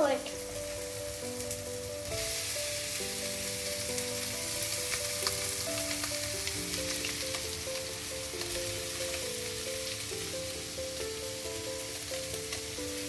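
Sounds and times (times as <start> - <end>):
background music with held notes: 0.0 - 13.0
chicken sizzling in oil: 0.0 - 13.0.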